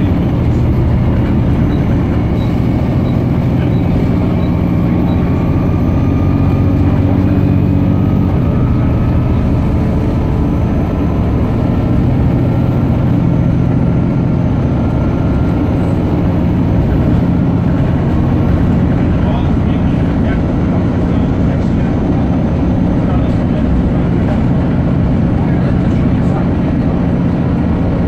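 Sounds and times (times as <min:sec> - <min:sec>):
bus diesel engine running: 0:00.0 - 0:28.0.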